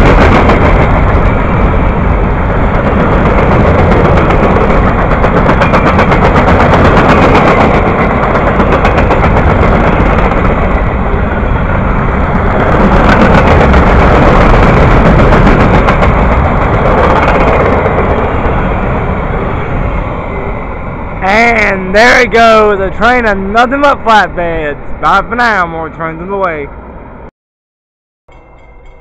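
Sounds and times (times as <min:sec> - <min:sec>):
steel wheels rumbling on rails: 0:00.0 - 0:25.5.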